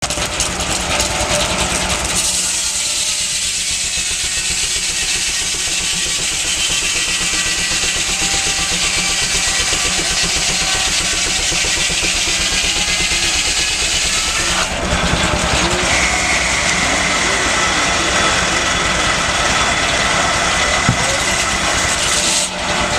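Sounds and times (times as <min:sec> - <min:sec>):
engine running: 0:00.0 - 0:22.9
saw cutting through log: 0:00.0 - 0:22.9.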